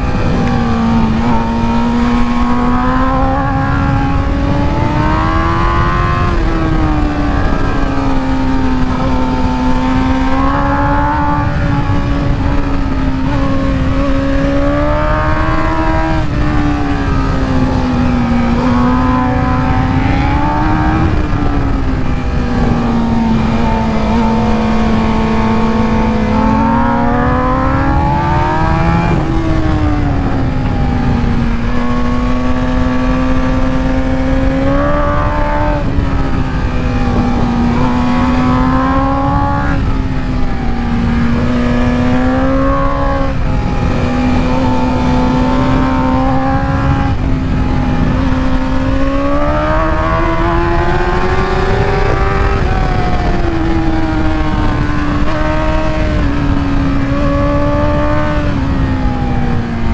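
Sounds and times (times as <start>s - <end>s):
motorcycle engine at high revs: 0.0s - 59.9s.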